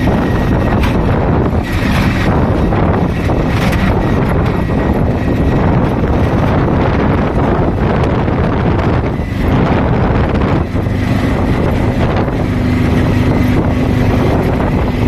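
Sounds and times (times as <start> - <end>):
steady low hum: 0.0 - 15.0
wind buffeting microphone: 0.0 - 15.0.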